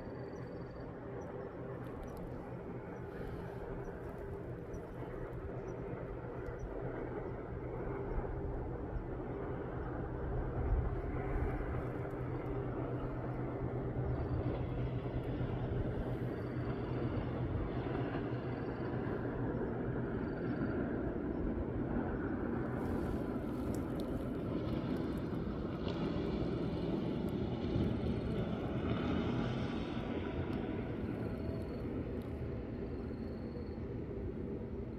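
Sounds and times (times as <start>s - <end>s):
distant engine droning: 0.0s - 34.9s
outdoor noise: 0.0s - 34.9s.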